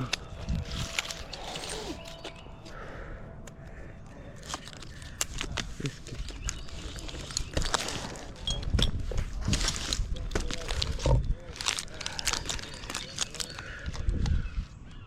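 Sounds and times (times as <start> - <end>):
low rumbling microphone noise: 2.7 - 15.0.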